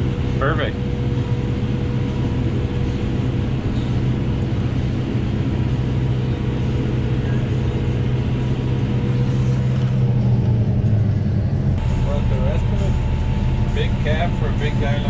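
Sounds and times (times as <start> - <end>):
faint steady whine: 0.0 - 15.0
tractor diesel engine droning: 0.0 - 15.0.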